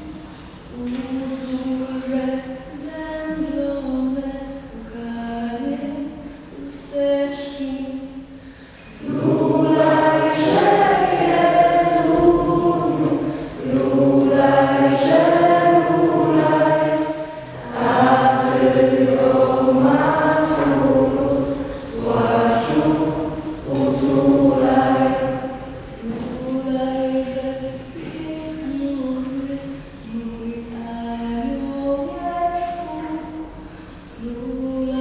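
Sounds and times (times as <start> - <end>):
choir singing a carol: 0.7 - 7.3, 8.9 - 33.6, 34.2 - 35.0.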